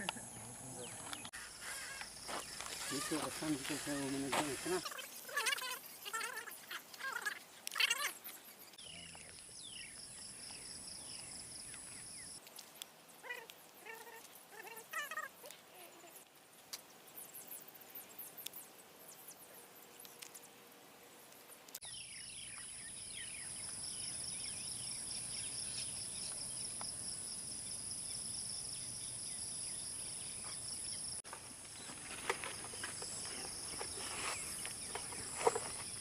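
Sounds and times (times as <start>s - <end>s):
insects droning: 0.0s - 12.4s, 17.1s - 36.0s.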